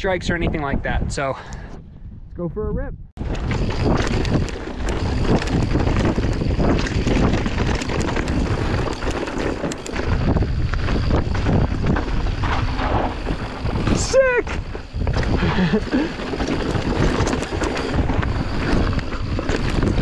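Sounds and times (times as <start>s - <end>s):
wind rushing over microphone: 0.0s - 20.0s
bike rattling over rough ground: 3.2s - 20.0s.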